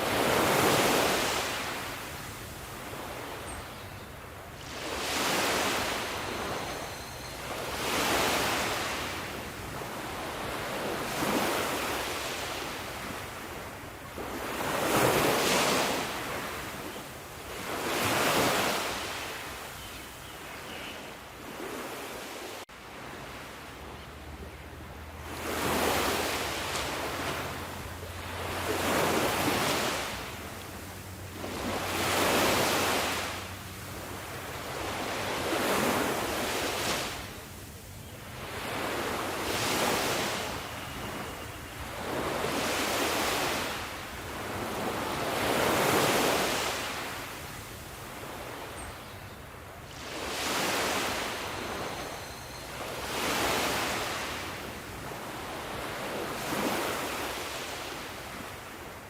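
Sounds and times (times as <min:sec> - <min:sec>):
sea waves breaking on shore: 0:00.0 - 0:19.9, 0:20.5 - 0:59.0.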